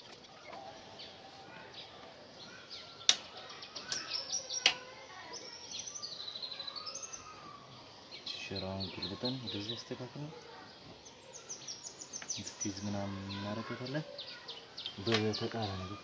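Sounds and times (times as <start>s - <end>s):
bird singing: 0.0s - 16.0s.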